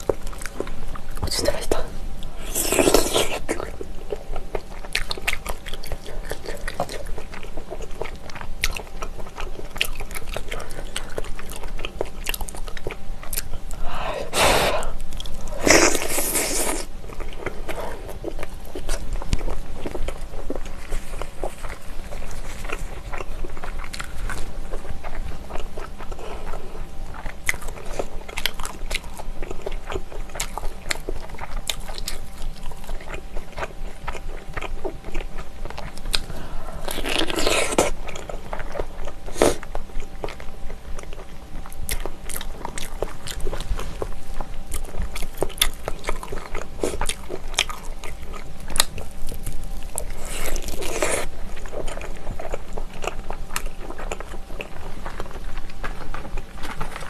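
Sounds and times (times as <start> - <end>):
close-miked chewing of meat: 0.0 - 57.0.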